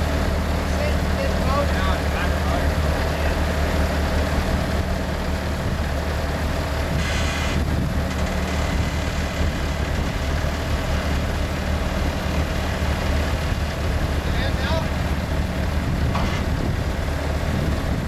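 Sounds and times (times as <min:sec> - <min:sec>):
loader engine idling: 0:00.0 - 0:18.0.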